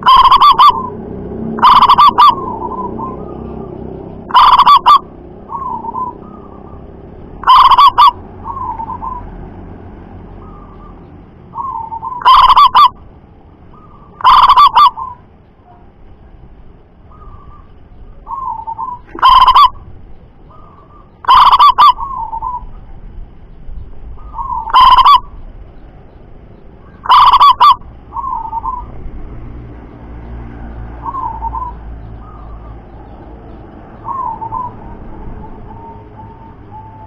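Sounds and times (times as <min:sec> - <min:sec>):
doves cooing: 0:00.0 - 0:09.5, 0:10.4 - 0:13.1, 0:13.7 - 0:15.8, 0:17.0 - 0:22.8, 0:24.1 - 0:25.4, 0:26.8 - 0:29.4, 0:30.2 - 0:37.0.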